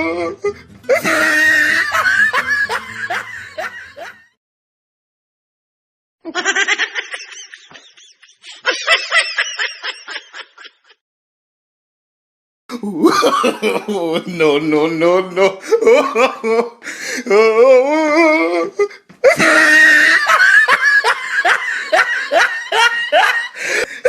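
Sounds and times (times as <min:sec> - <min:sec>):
person laughing: 0:00.2 - 0:04.3, 0:06.3 - 0:11.0, 0:12.7 - 0:24.0.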